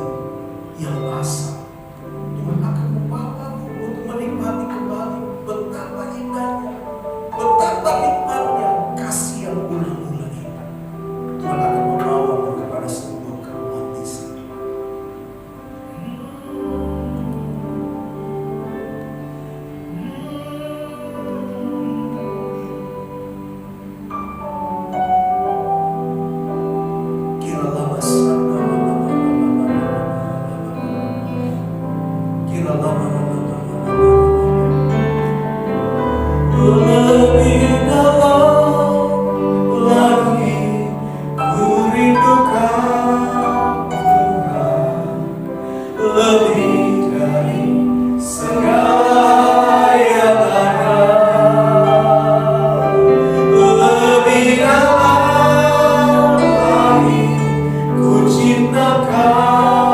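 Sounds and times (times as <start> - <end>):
soft held instrumental chords: 0.0 - 59.9
worship singing: 0.0 - 59.9.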